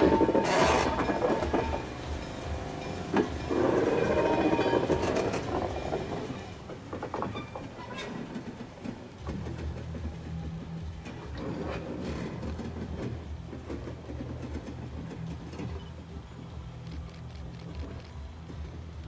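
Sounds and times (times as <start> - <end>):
low rolling rumble: 0.0 - 19.0
railway car wheels clicking on joints: 0.0 - 19.0.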